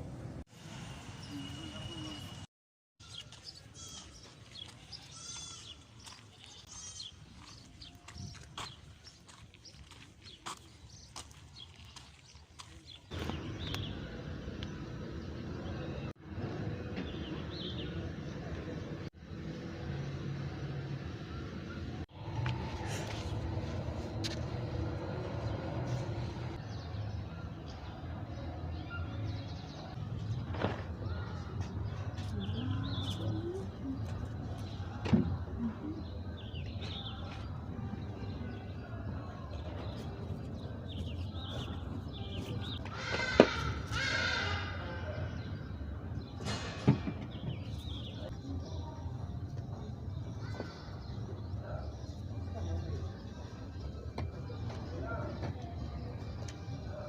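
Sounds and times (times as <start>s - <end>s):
distant road traffic: 0.0s - 7.7s, 8.6s - 57.0s.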